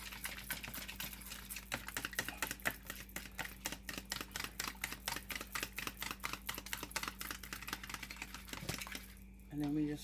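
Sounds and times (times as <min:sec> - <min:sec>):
eggs beaten in a bowl: 0:00.0 - 0:10.0.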